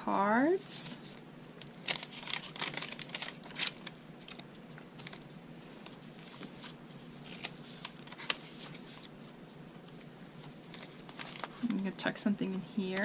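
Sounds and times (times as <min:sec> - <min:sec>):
paper pages rustling: 0:01.0 - 0:13.0.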